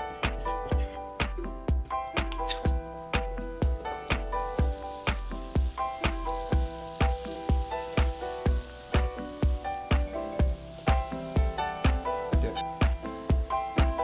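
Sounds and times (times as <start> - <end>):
background music with steady beat: 0.0 - 14.0
butter sizzling in a frying pan: 2.6 - 14.0.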